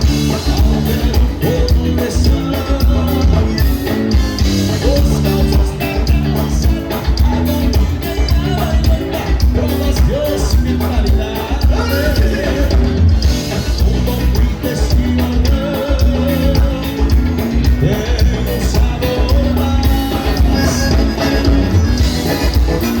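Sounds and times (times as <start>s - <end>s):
dance band playing: 0.0s - 23.0s
person singing: 0.0s - 23.0s.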